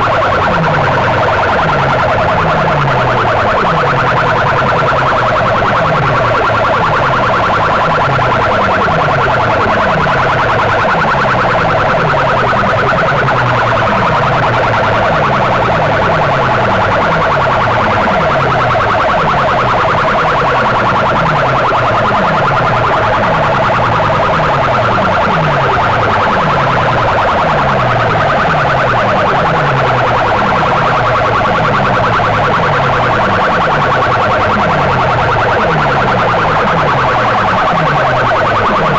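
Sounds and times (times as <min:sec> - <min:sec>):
siren-like high tone: 0:00.0 - 0:38.9.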